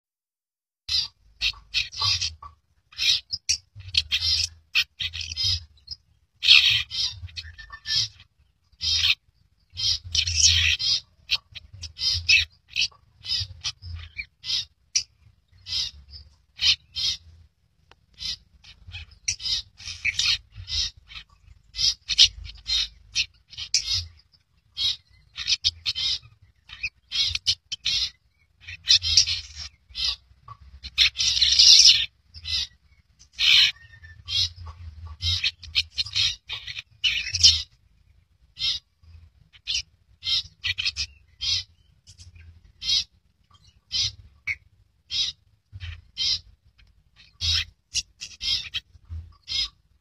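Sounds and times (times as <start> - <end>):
bird chattering song: 0.9 - 50.0.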